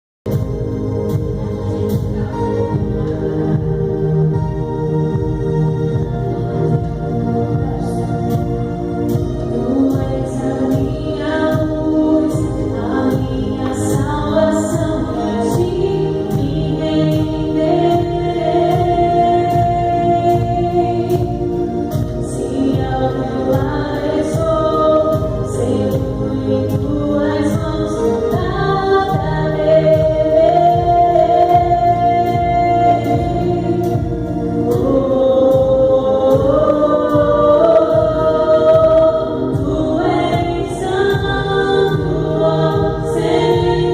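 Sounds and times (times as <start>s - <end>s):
band accompaniment: 0.3s - 43.9s
group singing gospel song: 0.3s - 43.9s.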